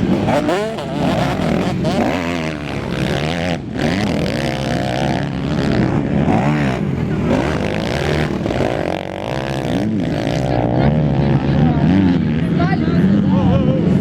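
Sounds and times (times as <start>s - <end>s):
race motorcycle engines revving: 0.0s - 14.0s.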